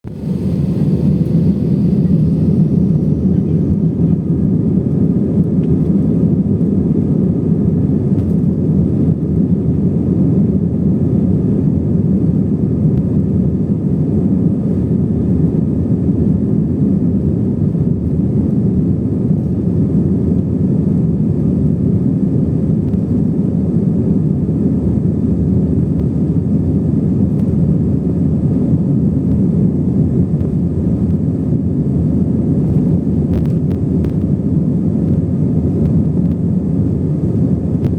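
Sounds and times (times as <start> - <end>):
airplane taking off: 0.0 - 37.9.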